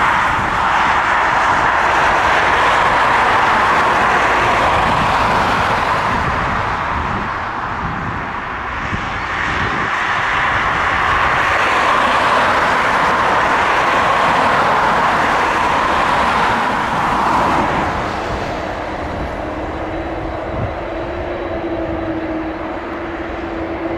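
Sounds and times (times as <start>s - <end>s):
jet airliner passing: 0.0s - 23.9s.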